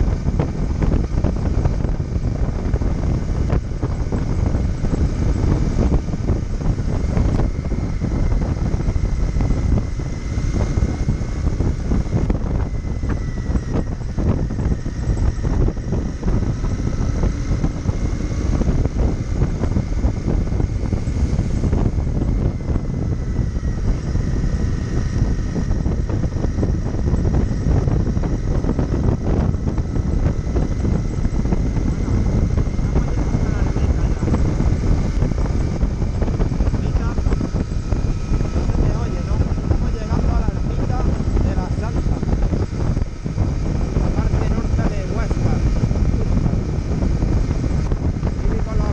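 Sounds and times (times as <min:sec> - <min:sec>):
motorcycle engine running: 0:00.0 - 0:48.9
road noise: 0:00.0 - 0:48.9
wind buffeting the microphone: 0:00.0 - 0:48.9.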